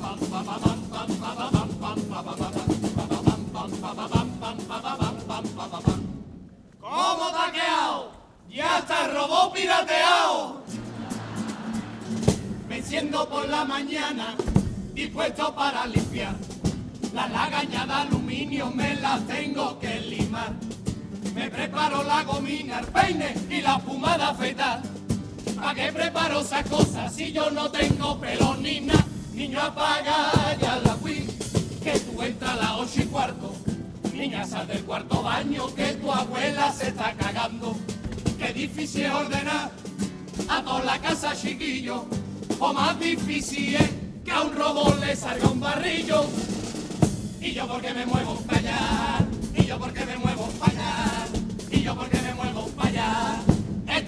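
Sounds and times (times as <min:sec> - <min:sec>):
drum strikes: 0:00.0 - 0:06.4, 0:10.8 - 0:13.2, 0:14.4 - 0:54.0
carnival band music: 0:00.0 - 0:07.4, 0:08.6 - 0:54.0
group of voices singing: 0:00.0 - 0:54.0.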